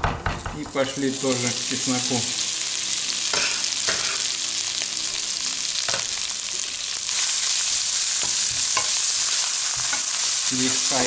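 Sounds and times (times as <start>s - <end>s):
tomatoes sizzling in butter: 0.6s - 11.0s.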